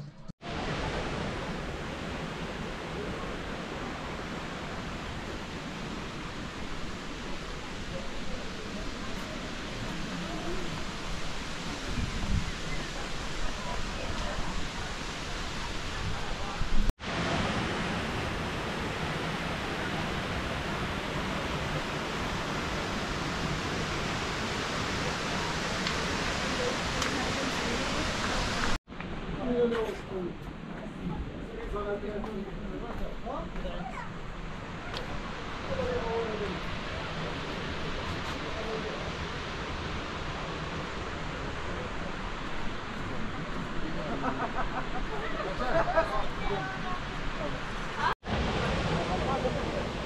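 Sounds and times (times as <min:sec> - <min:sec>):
waterfall rushing: 0:00.4 - 0:28.8, 0:34.1 - 0:50.0.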